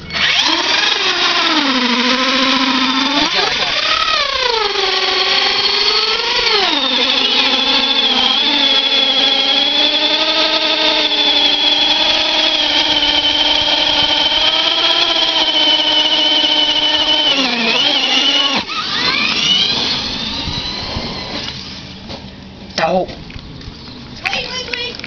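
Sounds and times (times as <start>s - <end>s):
spinning tyre whine: 0.0s - 22.0s
engine at high revs: 0.2s - 21.6s.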